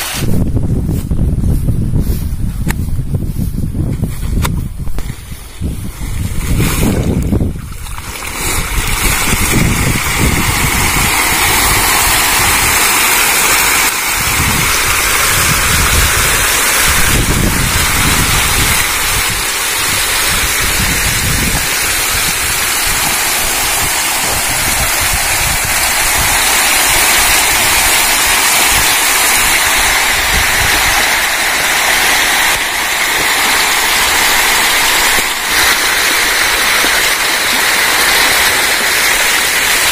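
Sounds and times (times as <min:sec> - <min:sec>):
fish thrashing and splashing: 0:05.0 - 0:39.9.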